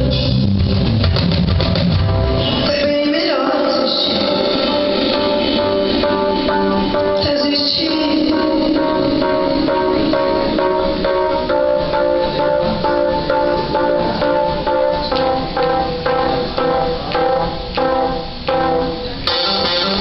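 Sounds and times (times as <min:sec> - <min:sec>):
sustained keyboard chords: 0:00.0 - 0:20.0.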